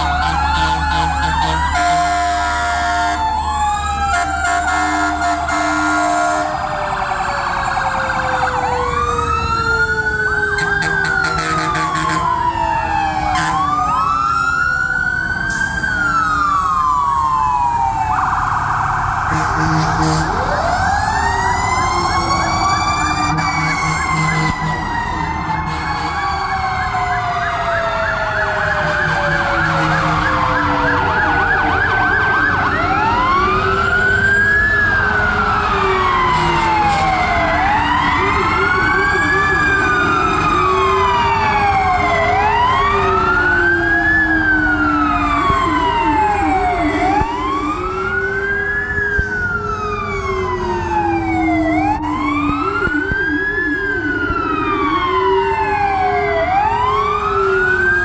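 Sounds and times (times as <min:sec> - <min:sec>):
fire truck sirens wailing: 0:00.0 - 0:58.0
truck engines rumbling: 0:00.0 - 0:58.0.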